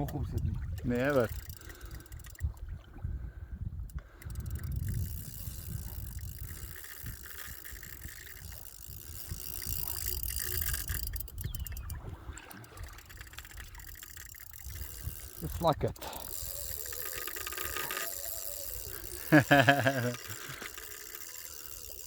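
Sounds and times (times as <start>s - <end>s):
fishing reel clicking: 0.0s - 2.7s, 3.8s - 22.0s
wind buffeting microphone: 0.0s - 19.3s.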